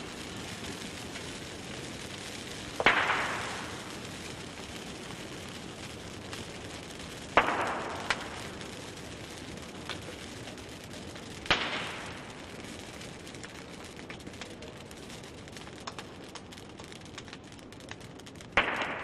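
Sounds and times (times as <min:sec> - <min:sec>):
fire cracking and snapping: 0:00.0 - 0:19.0
tree burning with rushing flame: 0:00.0 - 0:19.0.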